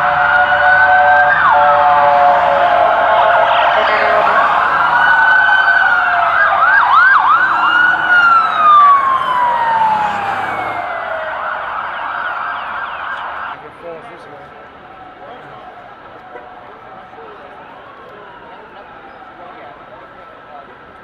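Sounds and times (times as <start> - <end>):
emergency vehicle siren: 0.0 - 21.0.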